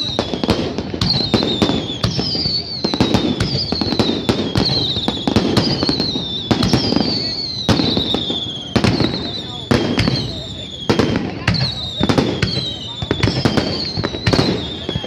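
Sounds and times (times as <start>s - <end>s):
falling firework whistles: 0.0s - 15.0s
fireworks bangs: 0.0s - 15.0s.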